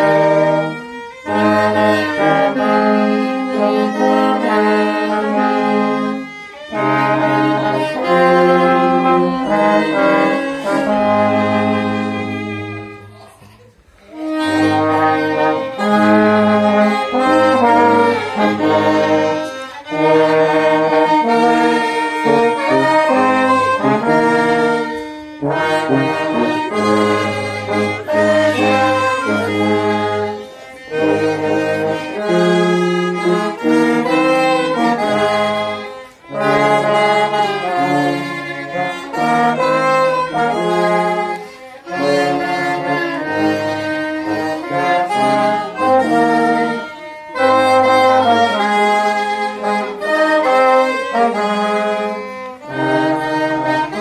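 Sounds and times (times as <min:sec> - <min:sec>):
trombone euphonium and violin hymn: 0:00.0 - 0:54.0.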